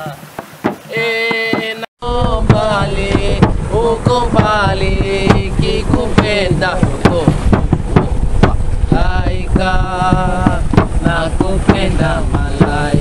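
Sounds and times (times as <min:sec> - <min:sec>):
sharp knocks: 0:00.3 - 0:13.0
people singing: 0:00.8 - 0:13.0
wind rumble on microphone: 0:02.0 - 0:13.0.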